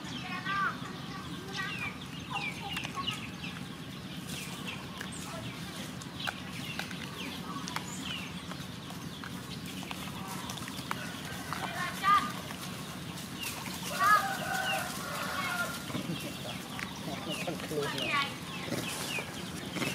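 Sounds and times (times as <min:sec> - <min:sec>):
animal chirping and clucking: 0:00.0 - 0:19.9
low background hum: 0:00.0 - 0:19.9.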